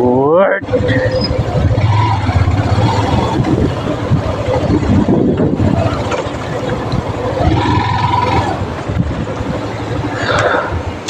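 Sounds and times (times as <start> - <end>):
motorcycle engine running: 0.6 - 11.0
wind buffeting microphone: 0.6 - 11.0.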